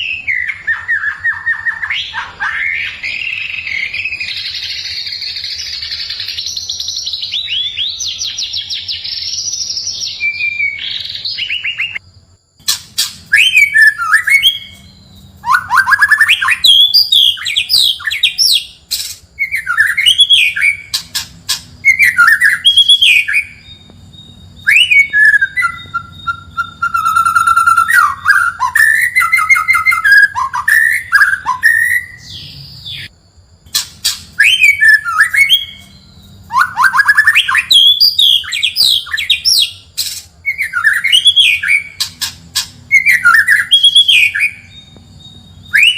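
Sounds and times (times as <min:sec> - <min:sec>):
bird singing: 0:00.0 - 0:45.9.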